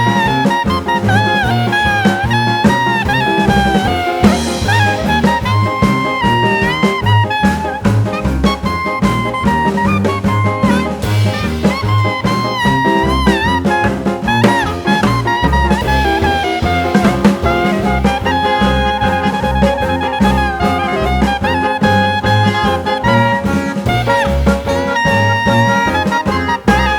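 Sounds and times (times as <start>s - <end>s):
jazzy swing music: 0.0s - 26.9s.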